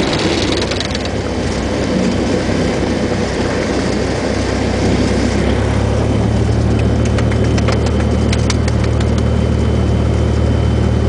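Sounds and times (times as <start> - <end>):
airflow rush: 0.0 - 10.4
aircraft engine idling: 0.0 - 11.0.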